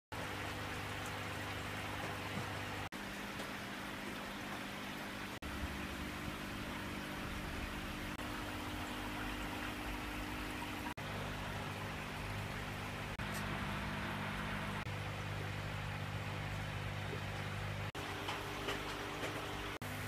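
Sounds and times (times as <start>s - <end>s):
aquarium water trickling: 0.1s - 20.0s
filter and air pump hum: 0.1s - 20.0s.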